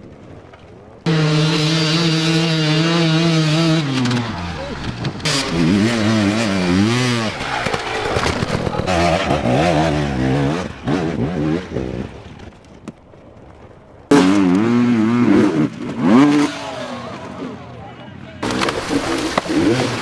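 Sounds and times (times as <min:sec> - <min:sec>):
dirt bike engine revving: 0:01.0 - 0:12.6, 0:14.1 - 0:20.0.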